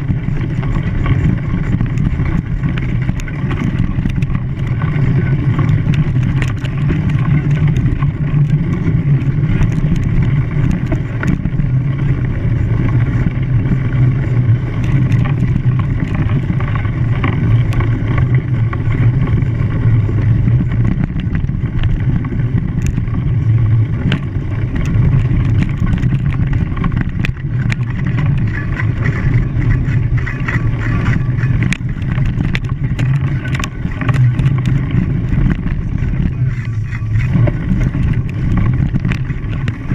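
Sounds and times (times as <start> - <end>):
engine running under load: 0.0 - 39.9
small clicks and rattles: 0.0 - 39.9.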